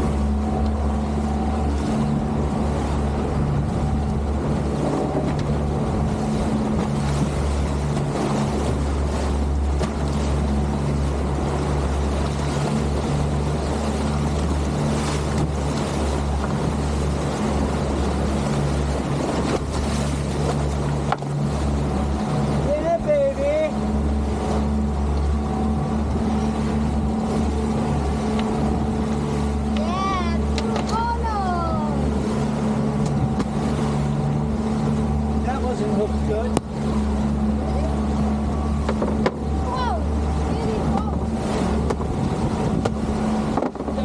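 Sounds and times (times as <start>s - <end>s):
motorboat engine humming: 0.0s - 44.0s.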